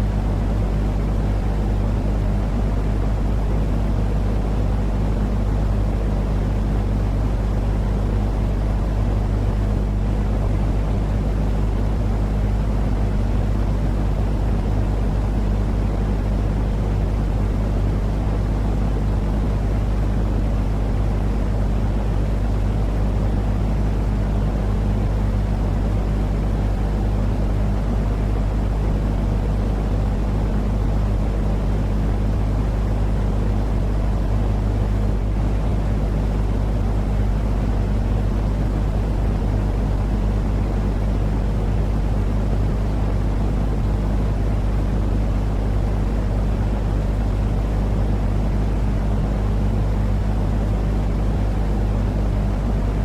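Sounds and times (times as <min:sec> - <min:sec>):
constant low hum: 0:00.0 - 0:53.0.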